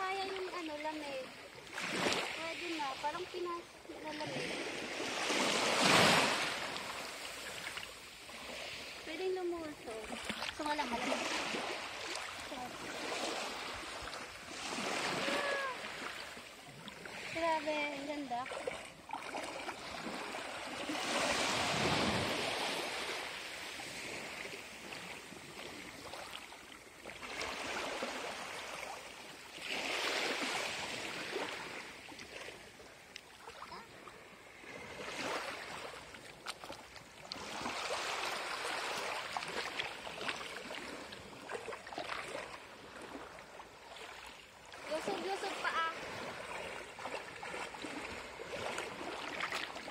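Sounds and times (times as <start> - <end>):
sea waves washing on shore: 0.0 - 49.9.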